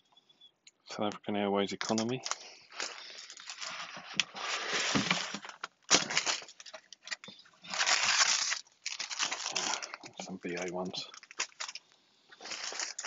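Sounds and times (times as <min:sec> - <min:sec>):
plastic wrapping crinkling: 0:01.8 - 0:13.0.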